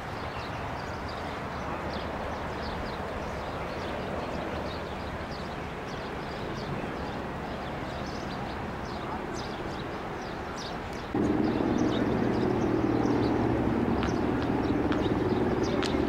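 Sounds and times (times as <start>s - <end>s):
wind rumbling on microphone: 0.0s - 16.0s
small birds chirping: 0.2s - 16.0s.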